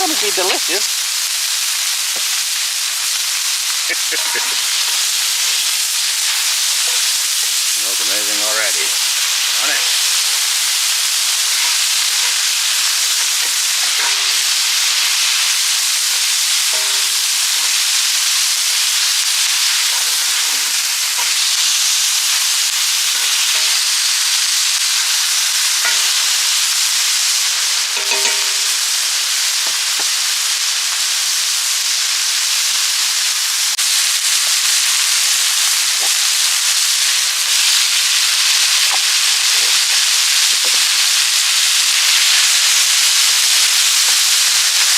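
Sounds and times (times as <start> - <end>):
meat sizzling over fire: 0.0 - 44.9.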